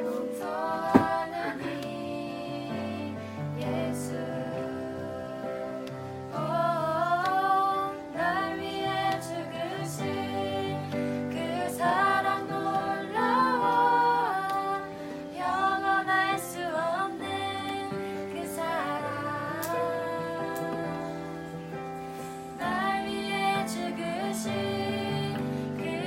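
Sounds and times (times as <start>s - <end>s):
women singing worship song: 0.0s - 26.0s.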